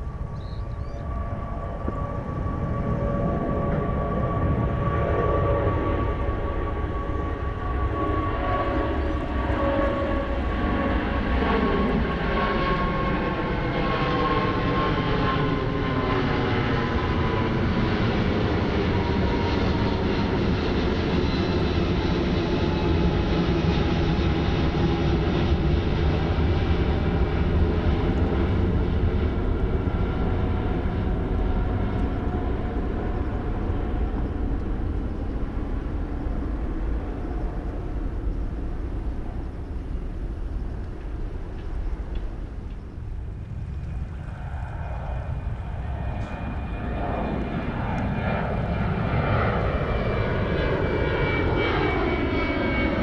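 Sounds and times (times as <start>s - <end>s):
jet engines at takeoff: 0.0s - 53.0s.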